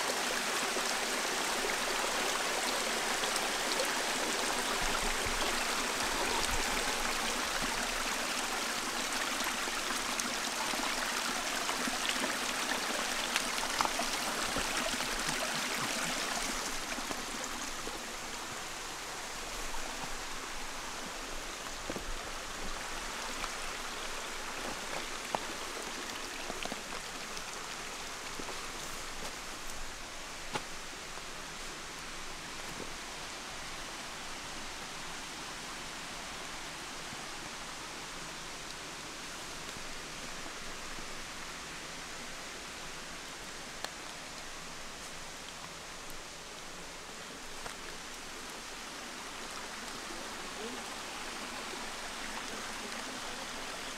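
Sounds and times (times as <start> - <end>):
stream splashing over rocks: 0.0 - 53.9.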